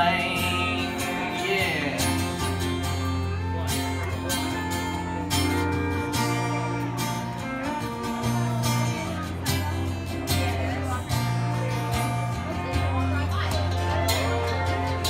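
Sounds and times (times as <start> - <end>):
acoustic guitar strumming: 0.0 - 15.0
pedal steel guitar notes: 0.0 - 15.0.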